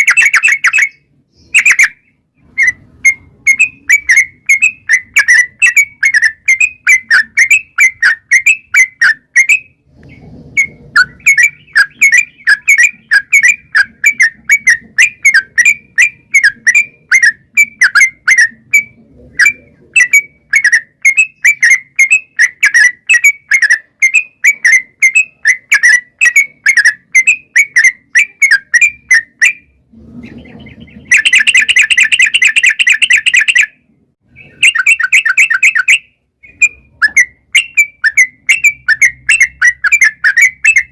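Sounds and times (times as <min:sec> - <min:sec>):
bulbul singing chattering notes: 0:00.0 - 0:09.8, 0:10.6 - 0:40.9.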